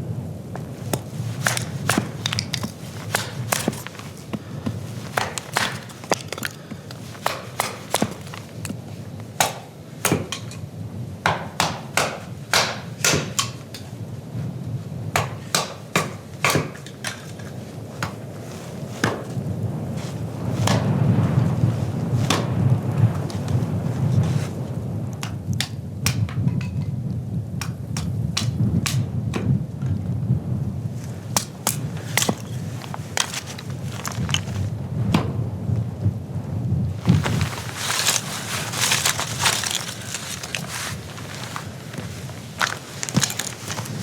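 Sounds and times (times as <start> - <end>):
storm wind rumble: 0.0 - 11.3, 17.2 - 44.0.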